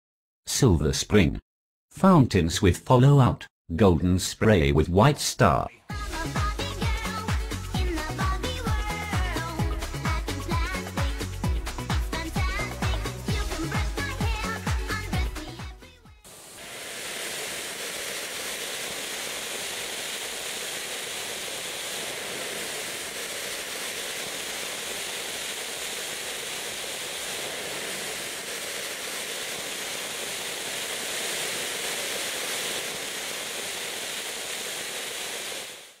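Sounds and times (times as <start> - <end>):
firework fountain hissing: 6.0 - 15.6, 16.3 - 36.0.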